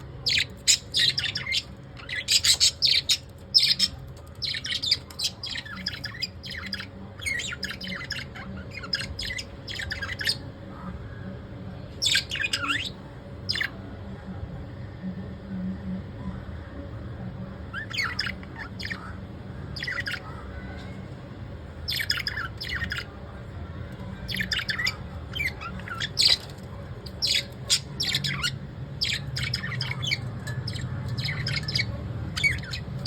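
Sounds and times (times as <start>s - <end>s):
lovebirds chirping: 0.0s - 11.2s, 11.9s - 13.8s, 17.6s - 21.1s, 21.7s - 33.0s
faint steady hum: 0.0s - 33.0s.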